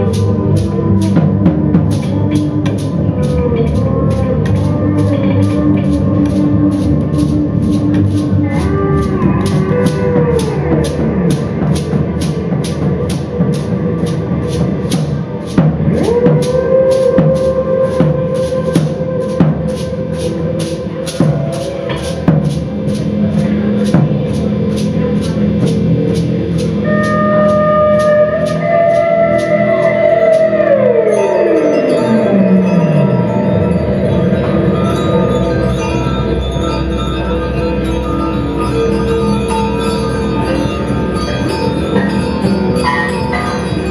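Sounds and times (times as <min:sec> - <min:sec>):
sliding sustained tones: 0:00.0 - 0:43.9.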